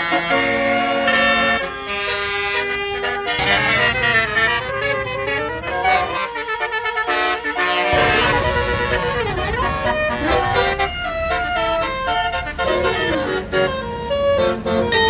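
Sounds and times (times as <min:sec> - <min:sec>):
multi-tone bus air horn tune: 0:00.0 - 0:15.0.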